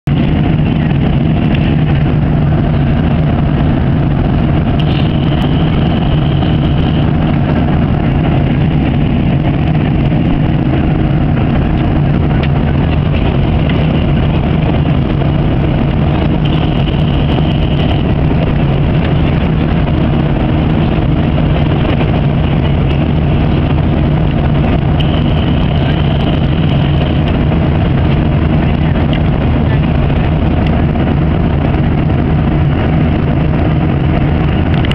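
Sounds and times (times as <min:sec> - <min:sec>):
jet engine drone: 0:00.0 - 0:34.9
low hum: 0:00.0 - 0:34.9
rushing airflow: 0:00.0 - 0:34.9
faint high whine: 0:00.1 - 0:34.9.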